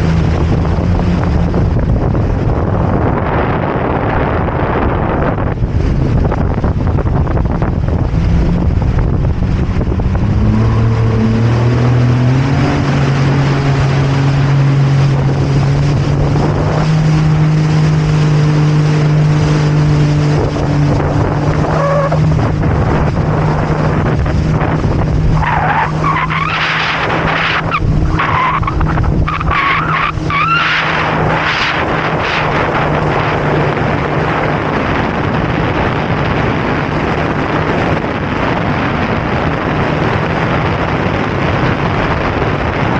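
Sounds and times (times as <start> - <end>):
jet ski engine accelerating: 0.0 - 42.9
wind and water noise: 0.0 - 42.9.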